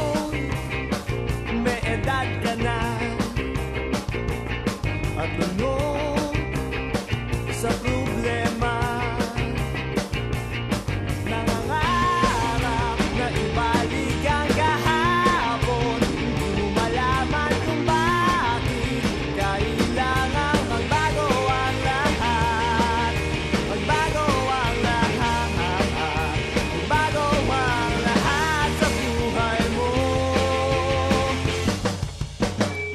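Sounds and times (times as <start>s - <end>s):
person singing: 0.0s - 0.7s, 1.5s - 3.4s, 5.2s - 6.5s, 7.6s - 9.7s, 11.2s - 31.6s
rock music with drums and guitar: 0.0s - 32.9s.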